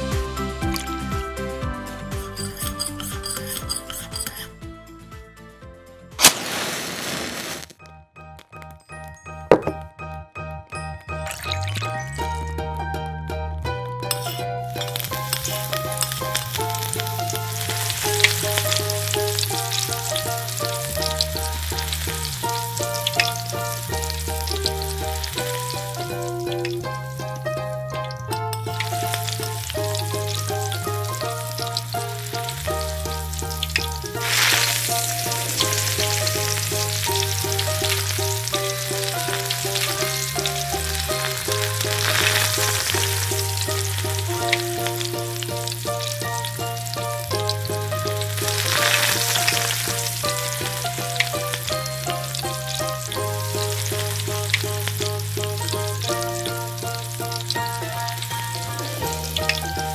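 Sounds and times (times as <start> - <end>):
background music with bass: 0.0 - 6.6, 8.2 - 59.9
hot oil sizzling in a pan: 2.2 - 4.5, 6.2 - 7.7, 14.2 - 59.9.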